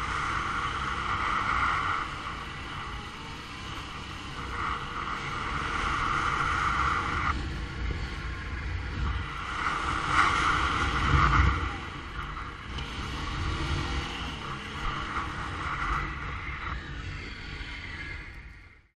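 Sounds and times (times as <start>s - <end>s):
wind buffeting microphone: 0.0s - 18.6s
atv engine running: 0.0s - 18.8s.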